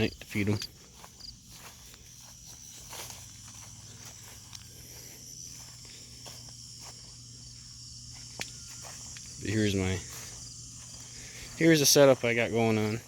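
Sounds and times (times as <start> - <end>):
footsteps: 0.0 - 13.0
insects chirring: 0.0 - 13.0.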